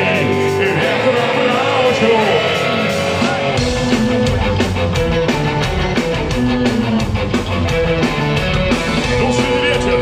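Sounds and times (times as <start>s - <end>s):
heavy bass and drum beat: 0.0s - 10.0s
punk rock band playing: 0.0s - 10.0s.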